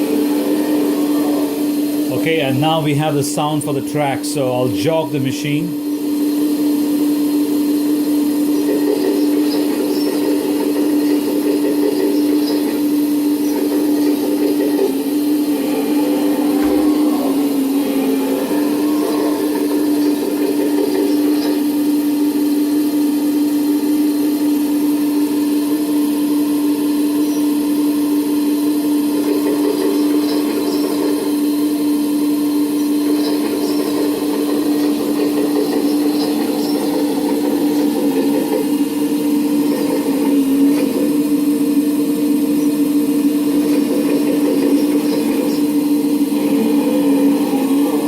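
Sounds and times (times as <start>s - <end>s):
simulated excavator engine sound: 0.0s - 48.0s
steady whine: 0.0s - 48.0s.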